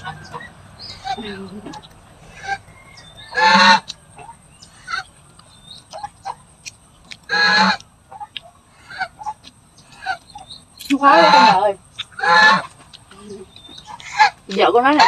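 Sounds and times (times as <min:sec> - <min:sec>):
goose honking: 0:00.0 - 0:05.1, 0:07.3 - 0:15.0.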